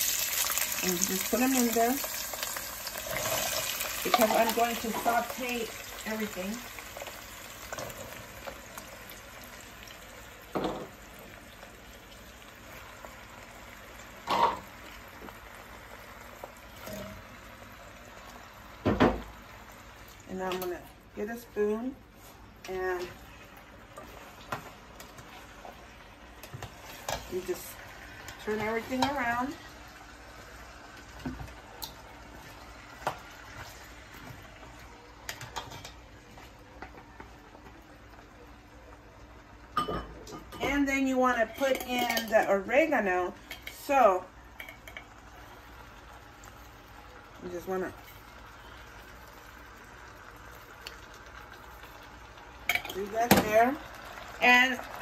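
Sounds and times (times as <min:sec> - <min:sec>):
faint oil sizzle: 0:00.0 - 0:55.0.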